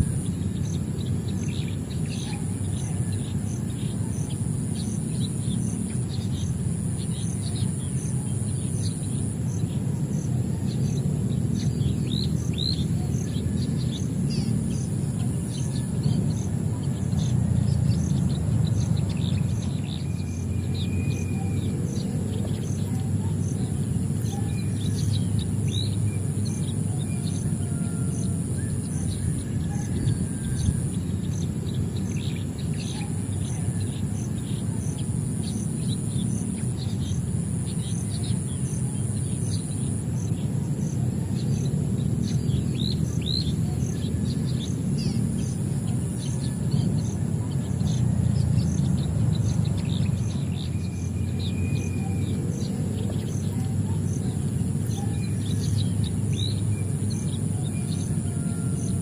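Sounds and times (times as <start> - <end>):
low outdoor rumble: 0.0 - 59.0
small birds chirping: 0.0 - 59.0.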